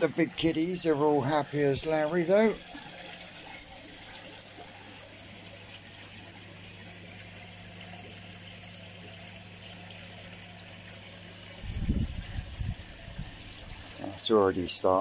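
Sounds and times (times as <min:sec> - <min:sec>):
low pump hum: 0:00.0 - 0:15.0
water trickling and splashing: 0:00.0 - 0:15.0.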